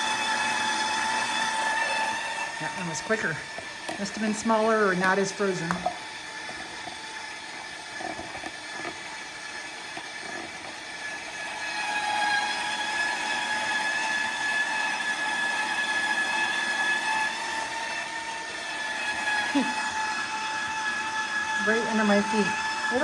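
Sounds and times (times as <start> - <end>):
stand mixer grating cheese: 0.0 - 23.0.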